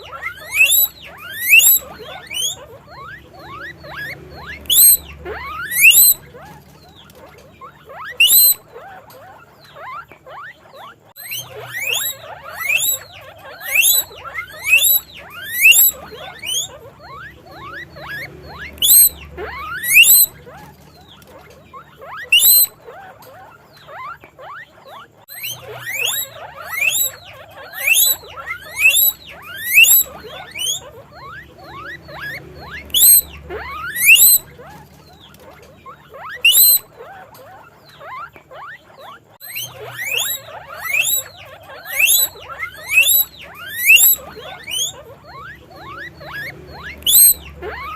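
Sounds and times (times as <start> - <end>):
guinea pig wheeking: 0.0 - 47.9.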